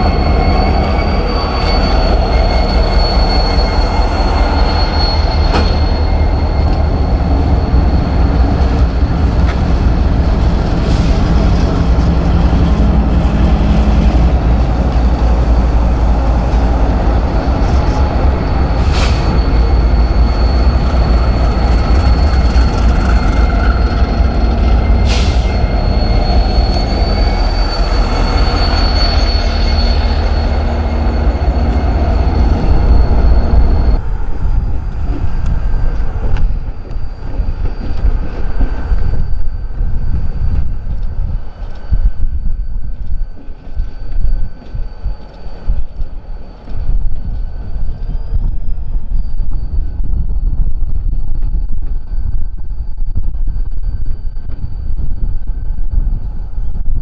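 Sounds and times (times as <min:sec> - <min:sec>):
train rumble: 0:00.0 - 0:57.0
train wheel squeal: 0:00.0 - 0:57.0.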